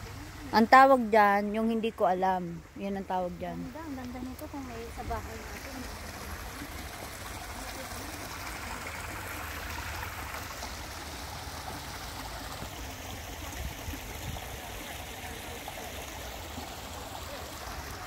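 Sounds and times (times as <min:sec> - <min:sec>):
water trickling into pond: 0:00.0 - 0:18.0.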